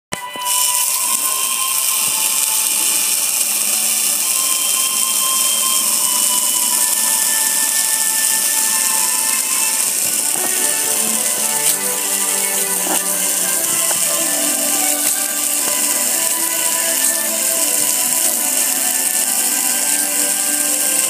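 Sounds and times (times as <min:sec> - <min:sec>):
water jet splashing on metal: 0:00.2 - 0:21.0.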